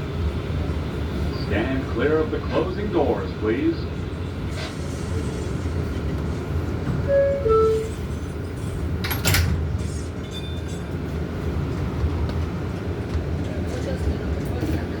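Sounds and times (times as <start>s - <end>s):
subway car rumble: 0.0s - 15.0s.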